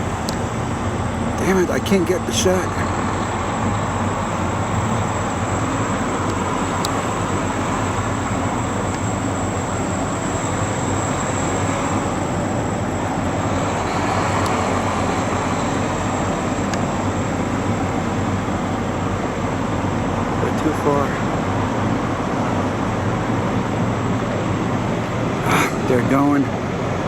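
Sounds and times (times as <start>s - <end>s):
engine idling hum: 0.0s - 27.0s
traffic rush: 0.0s - 27.0s.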